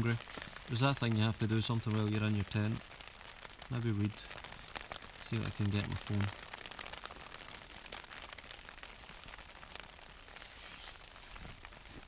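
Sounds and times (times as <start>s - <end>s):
rain on tent fabric: 0.0s - 12.0s.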